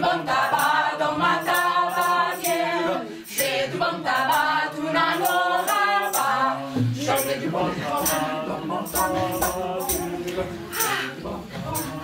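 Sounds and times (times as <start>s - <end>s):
group singing in unison: 0.0s - 12.0s.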